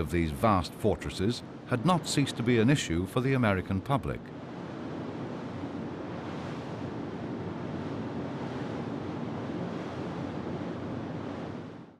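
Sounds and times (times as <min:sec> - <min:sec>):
sea waves: 0:00.0 - 0:11.9
wind: 0:00.0 - 0:11.9.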